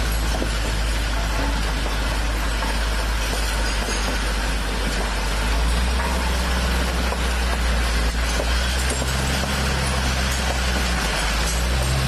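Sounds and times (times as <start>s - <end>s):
diesel engine rumbling: 0.0s - 12.0s
glass bottles being crushed: 0.0s - 12.0s.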